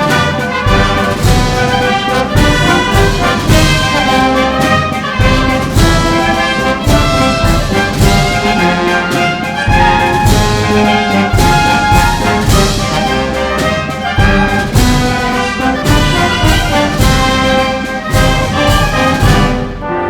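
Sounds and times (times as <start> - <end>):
brass melody: 0.0 - 20.0
slow regular drum beat: 0.0 - 20.0.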